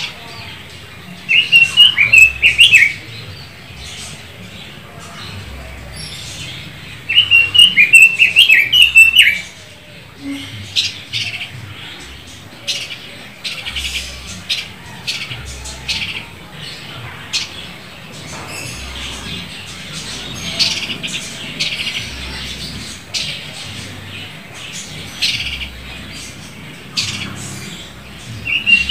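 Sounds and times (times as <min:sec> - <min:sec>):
bird singing warbled phrases: 0:00.0 - 0:28.9.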